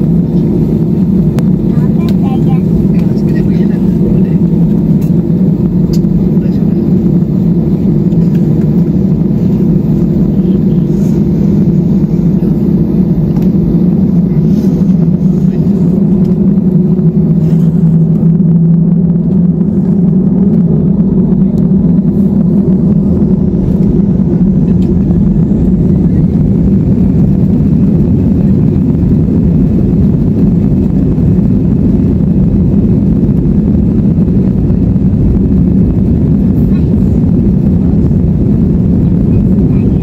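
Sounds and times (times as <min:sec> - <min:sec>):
faint whine: 0:00.0 - 0:40.0
jet engines rumbling: 0:00.0 - 0:40.0.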